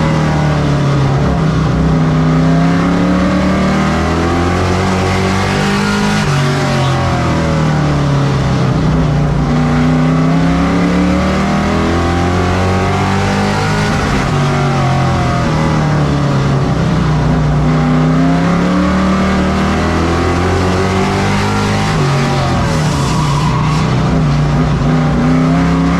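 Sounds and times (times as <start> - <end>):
race truck engine revving: 0.0 - 25.9.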